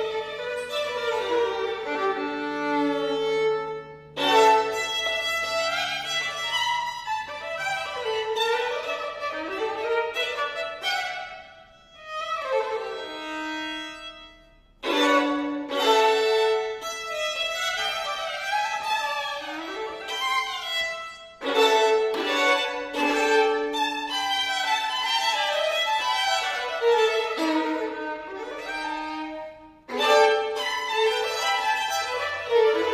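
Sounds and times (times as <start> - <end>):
two violins playing blues: 0.0 - 32.9.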